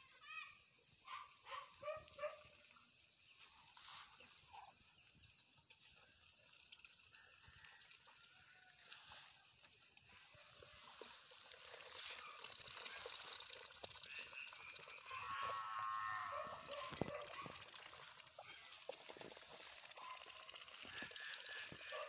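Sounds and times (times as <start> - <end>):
ducks pecking from metal bowl: 2.5 - 22.0.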